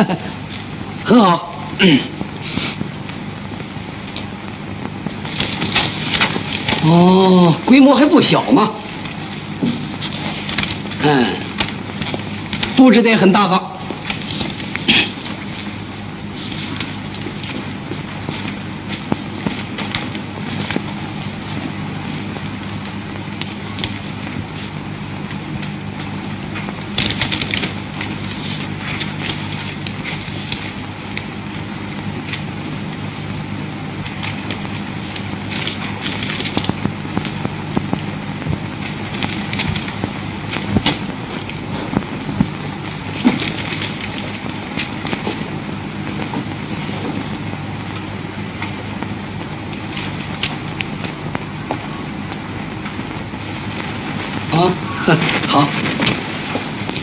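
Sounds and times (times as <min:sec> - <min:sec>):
film soundtrack hum: 0:00.0 - 0:57.0.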